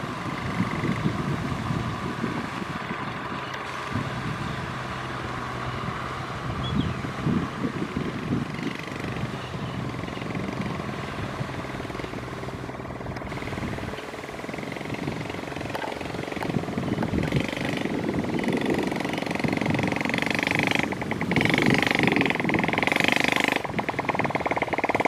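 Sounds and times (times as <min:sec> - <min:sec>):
tractor diesel engine throbbing: 0:00.0 - 0:25.0.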